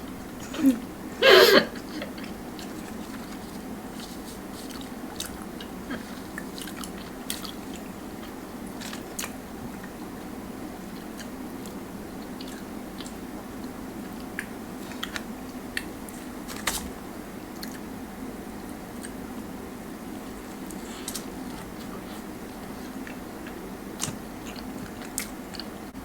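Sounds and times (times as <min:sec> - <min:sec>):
low room hum: 0:00.0 - 0:26.0
biting and chewing food: 0:01.8 - 0:18.0, 0:20.2 - 0:25.9.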